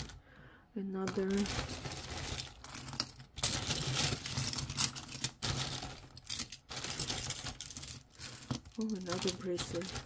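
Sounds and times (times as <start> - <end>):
jewelry clinking and jangling: 0.9 - 10.0
plastic bag crinkling: 1.0 - 10.0.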